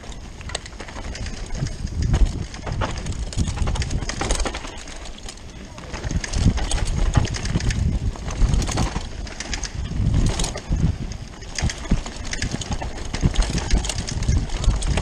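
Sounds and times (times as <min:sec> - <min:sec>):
bike clicks and rattles: 0:00.0 - 0:15.0
wind buffeting microphone: 0:00.0 - 0:15.0.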